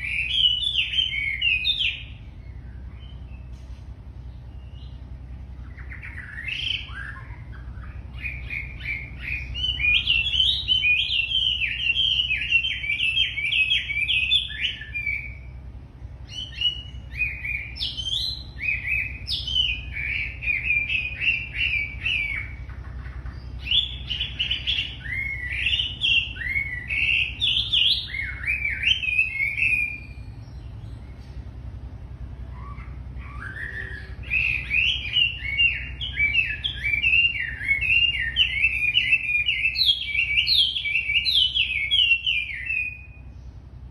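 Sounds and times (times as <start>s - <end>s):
songbird chirping and whistling: 0.0s - 43.6s
steady low hum: 0.0s - 43.9s.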